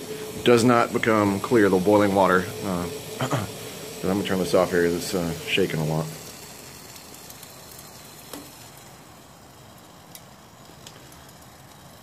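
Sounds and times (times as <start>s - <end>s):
gas stove hissing: 0.0s - 12.0s.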